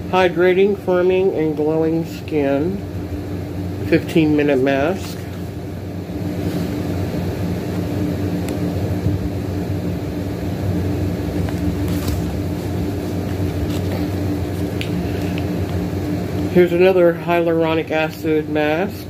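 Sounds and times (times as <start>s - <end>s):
appliance humming: 0.0s - 19.0s.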